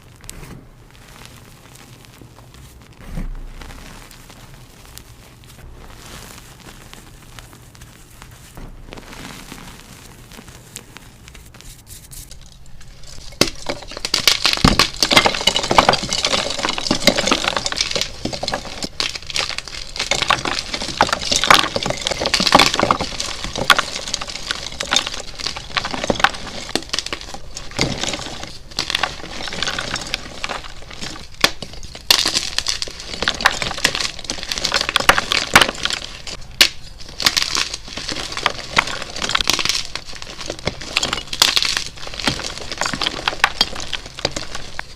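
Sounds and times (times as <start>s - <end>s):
chalk being crushed: 0.0s - 44.9s.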